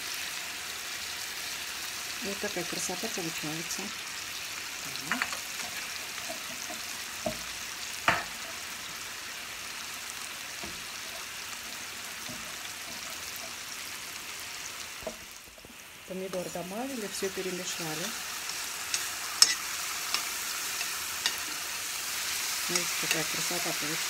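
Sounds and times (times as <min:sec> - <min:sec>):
vegetables sizzling in frying pan: 0:00.0 - 0:24.0.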